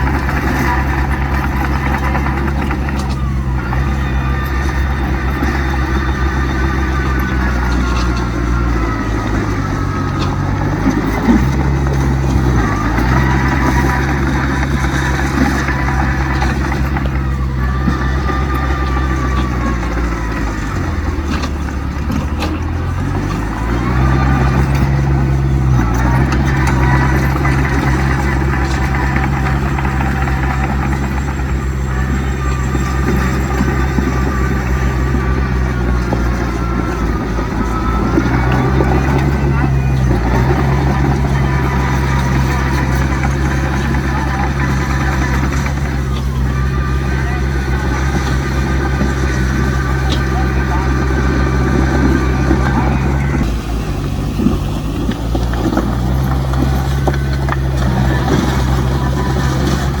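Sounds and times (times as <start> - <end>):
diesel machinery engine: 0.0 - 60.0.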